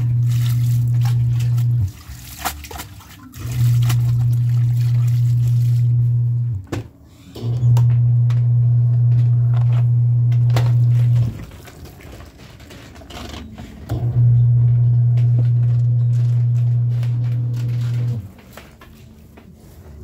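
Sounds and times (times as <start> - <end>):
washing machine motor humming: 0.0 - 18.5.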